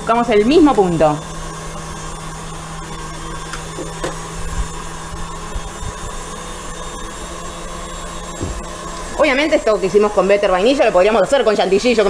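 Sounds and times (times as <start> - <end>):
stand mixer whisking: 0.0 - 12.0.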